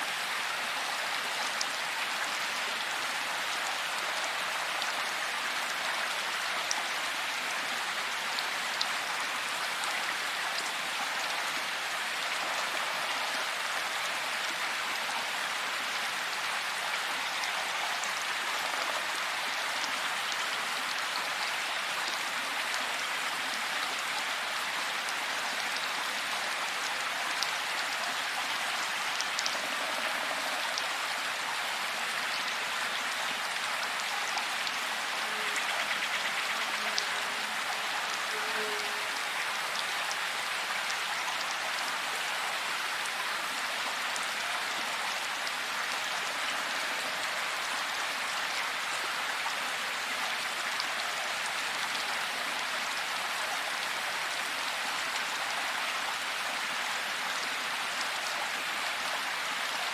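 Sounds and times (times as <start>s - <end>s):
heavy rain in forest: 0.0s - 59.9s.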